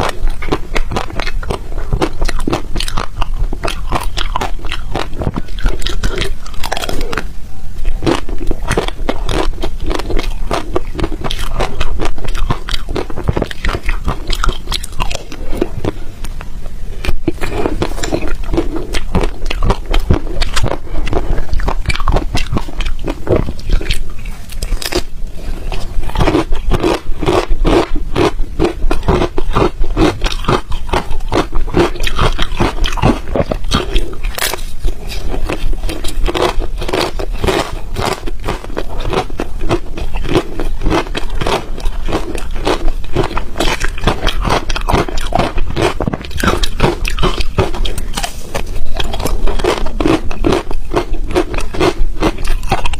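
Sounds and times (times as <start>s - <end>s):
person crunching ice: 8.0s - 16.0s, 17.3s - 52.9s.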